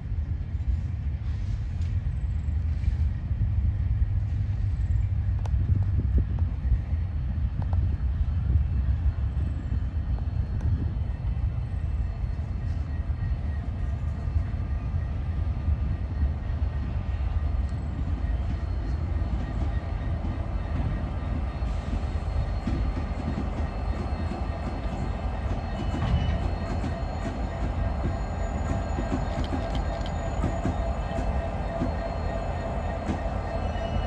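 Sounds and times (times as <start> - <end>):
freight train rumbling past: 0.0 - 34.0.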